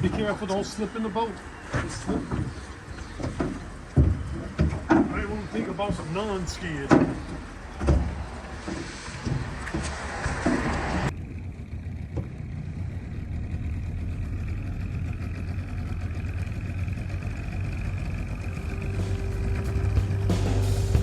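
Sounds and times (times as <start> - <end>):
engine droning steadily: 0.0 - 21.0.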